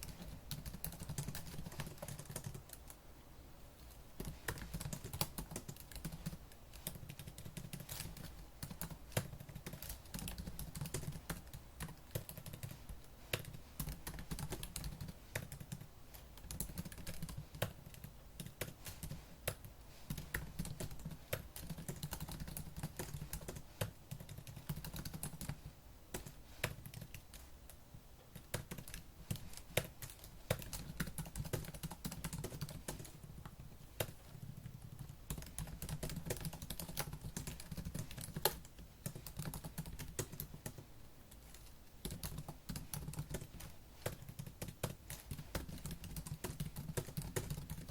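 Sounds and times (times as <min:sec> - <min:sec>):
fast typing on laptop keyboard: 0:00.0 - 0:03.0, 0:04.2 - 0:47.9.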